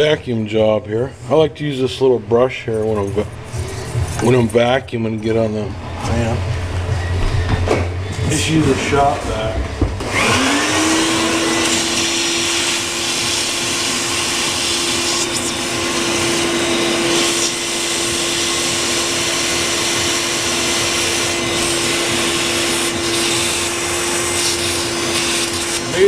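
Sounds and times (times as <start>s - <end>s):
shop vac motor whine: 0.0s - 26.0s.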